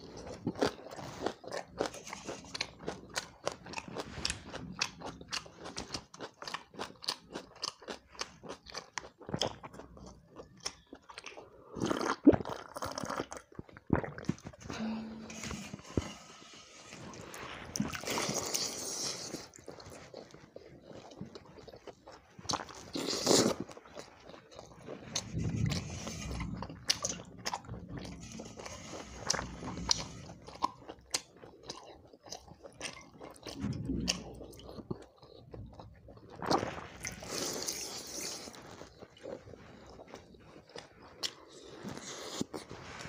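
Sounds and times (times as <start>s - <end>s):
person chewing and biting food: 0.0s - 42.8s.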